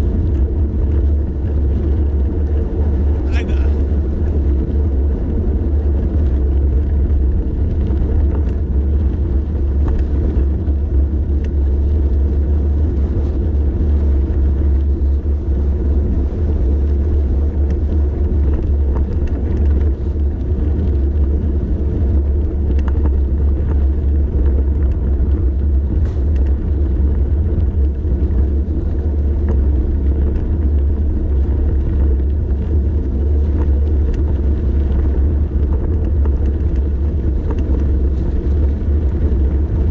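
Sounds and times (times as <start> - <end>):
bicycle tyres rolling on road: 0.0 - 39.9
faint ticks and rattles: 0.0 - 39.9
wind buffeting microphone: 0.0 - 39.9.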